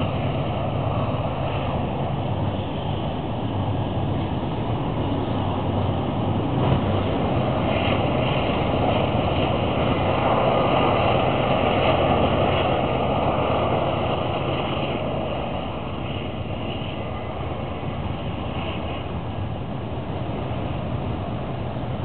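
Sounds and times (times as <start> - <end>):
diesel locomotive engines rumbling: 0.0 - 22.0
freight cars rolling by: 0.0 - 22.0.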